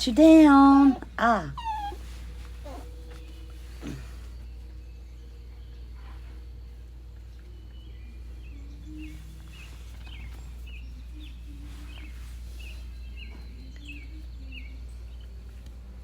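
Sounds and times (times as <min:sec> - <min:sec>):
bird chirping: 0:00.0 - 0:16.0
steady low hum: 0:00.0 - 0:16.0.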